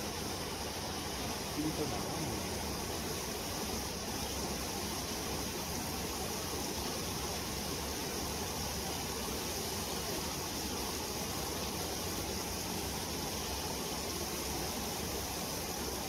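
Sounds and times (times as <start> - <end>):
constant high hiss: 0.0 - 16.0
mountain stream rushing: 0.0 - 16.0.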